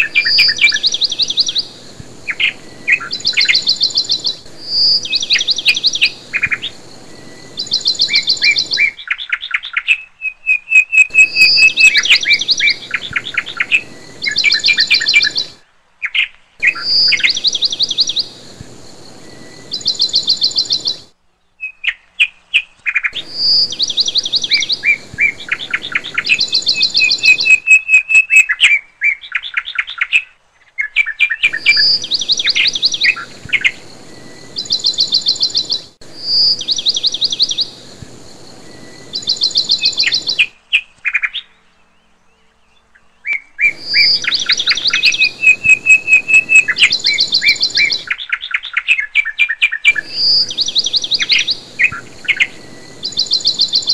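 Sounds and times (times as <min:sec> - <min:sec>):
bird chirps and trills: 0:00.0 - 0:53.9.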